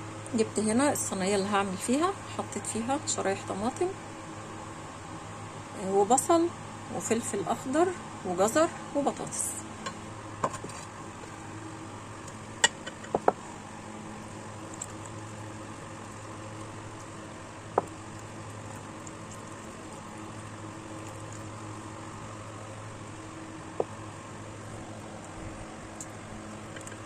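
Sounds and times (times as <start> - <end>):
room noise hum and hiss: 0.0 - 27.0.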